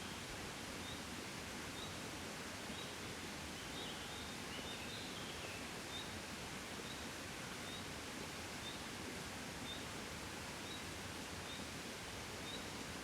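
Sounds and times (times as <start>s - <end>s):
gentle wind: 0.0s - 13.0s.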